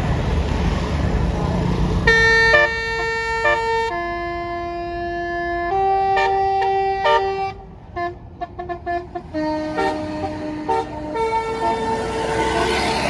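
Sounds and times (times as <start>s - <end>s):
musical air horn playing tune: 2.1s - 13.0s.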